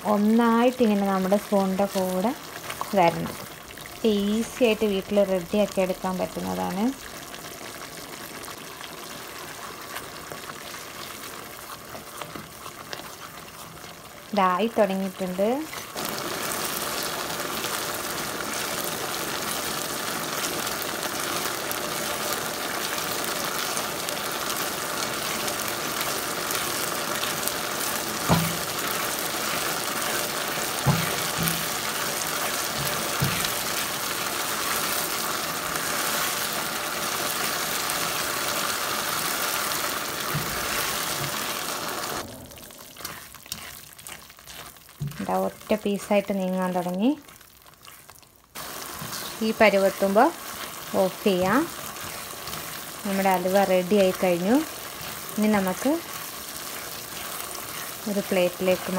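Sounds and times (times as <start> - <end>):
halwa sizzling in a pan: 0.0 - 58.9.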